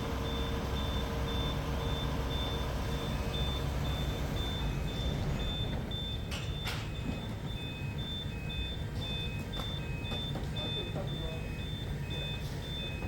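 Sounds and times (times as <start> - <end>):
engine low rumble: 0.0 - 13.0
reversing alarm beeping: 0.0 - 13.0.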